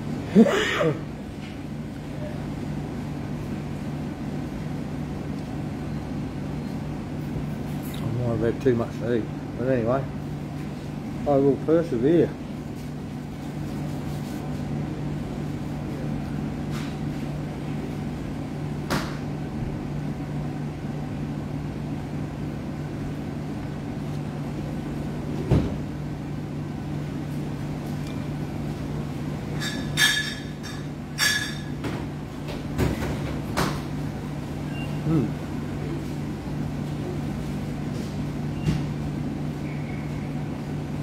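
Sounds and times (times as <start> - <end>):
machinery hum: 0.0 - 41.0.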